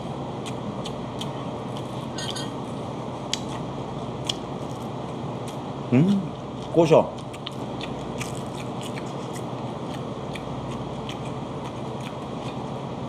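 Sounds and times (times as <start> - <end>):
steady background hum: 0.0 - 13.0
chewing with crunching clicks: 0.4 - 2.4, 3.3 - 5.6, 6.6 - 12.8.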